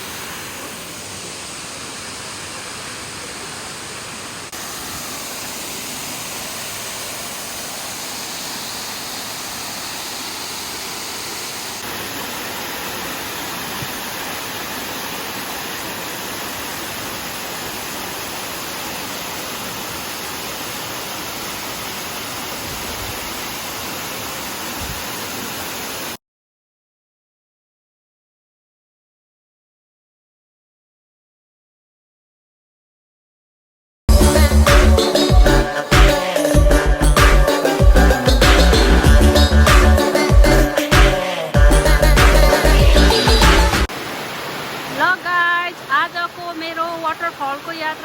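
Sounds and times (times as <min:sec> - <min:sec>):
waterfall rushing: 0:00.0 - 0:26.2, 0:34.1 - 0:48.0.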